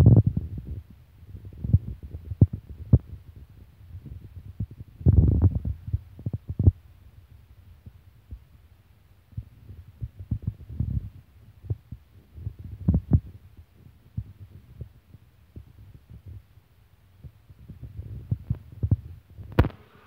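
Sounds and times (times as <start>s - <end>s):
wind buffeting microphone: 0.0s - 8.7s, 9.3s - 19.8s.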